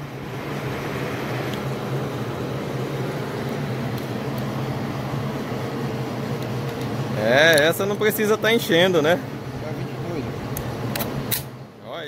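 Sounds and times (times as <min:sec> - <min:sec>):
air compressor motor humming: 0:00.0 - 0:11.6.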